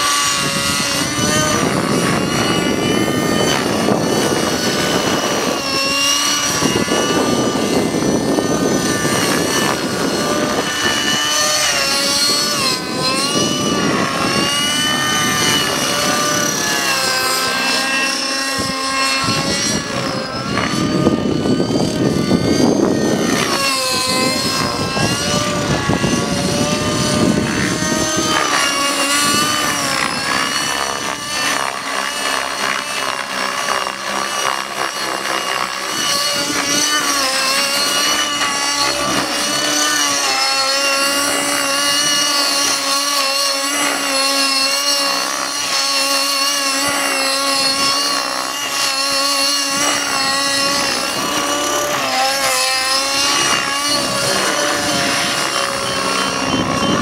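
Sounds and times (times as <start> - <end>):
model helicopter engine high pitch: 0.0 - 57.0
rotor blades rushing: 0.0 - 57.0.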